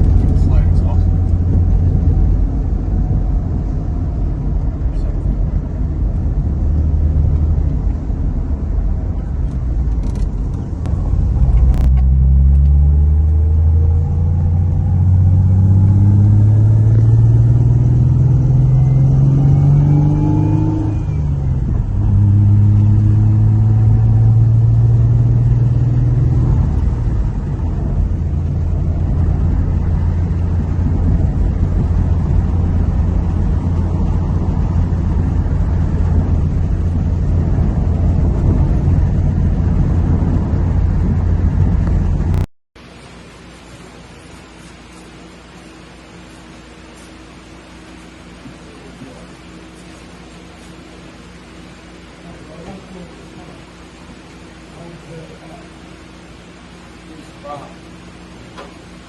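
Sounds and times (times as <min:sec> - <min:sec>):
car engine idling and accelerating: 0:00.0 - 0:59.0.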